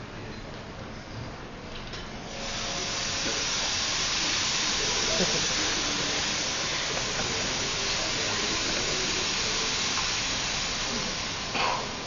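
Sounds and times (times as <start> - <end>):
fog machine hissing: 2.2 - 12.0
loud burst of noise: 2.3 - 12.0.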